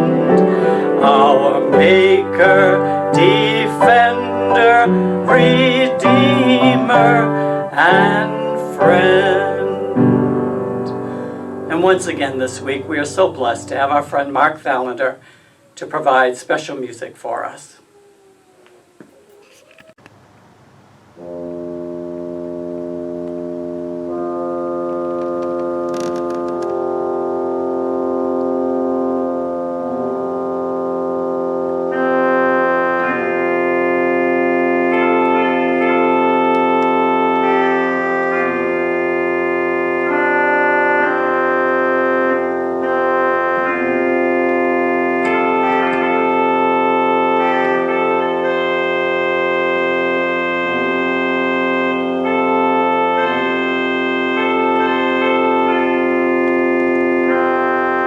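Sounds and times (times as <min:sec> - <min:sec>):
organ playing sustained chords: 0:00.0 - 0:17.8, 0:21.0 - 0:58.0.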